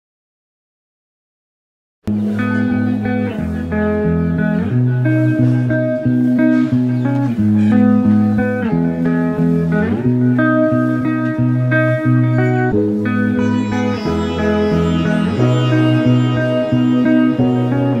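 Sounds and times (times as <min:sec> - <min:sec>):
guitar-led instrumental music: 0:02.1 - 0:18.0.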